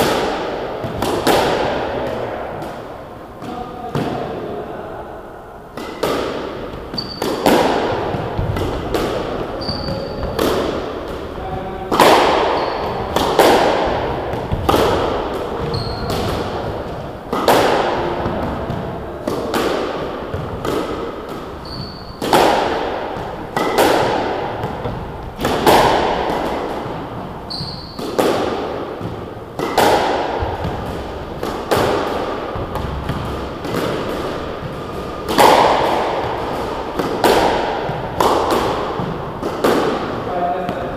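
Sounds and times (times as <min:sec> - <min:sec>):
racket striking ball: 0:00.0 - 0:04.4, 0:05.7 - 0:40.9
squash ball hitting walls: 0:00.0 - 0:04.4, 0:05.7 - 0:40.9.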